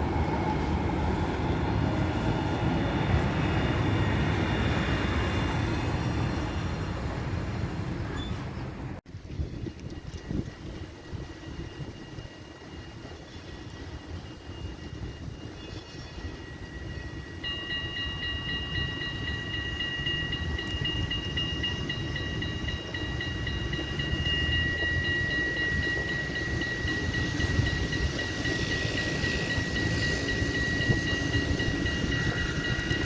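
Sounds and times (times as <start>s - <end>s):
steel wheels squealing on rails: 0.0s - 33.0s
tram rumbling on rails: 0.0s - 33.0s.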